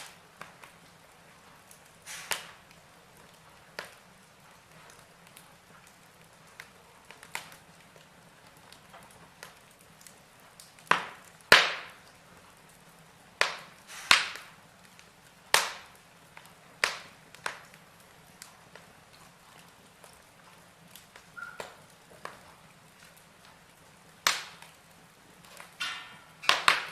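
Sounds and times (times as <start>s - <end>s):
burning logs crackling and popping: 0.0s - 26.9s.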